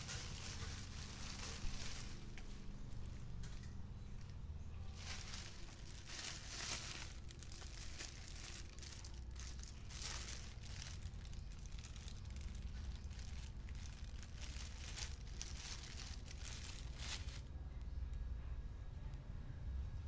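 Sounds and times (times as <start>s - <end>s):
plastic bag crinkling: 0.0s - 3.7s, 4.9s - 17.4s.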